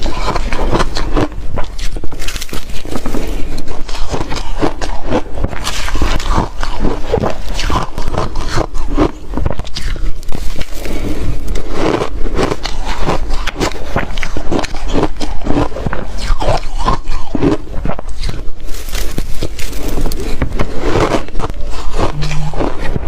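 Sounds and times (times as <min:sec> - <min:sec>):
teeth crunching ice: 0:00.0 - 0:23.0.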